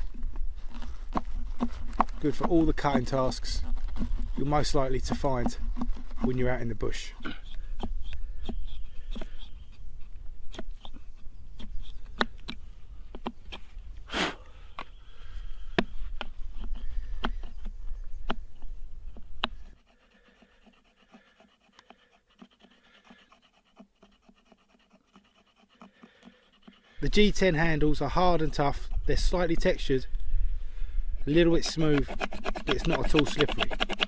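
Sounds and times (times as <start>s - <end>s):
knife carving wood: 0.0s - 29.9s, 31.2s - 34.0s.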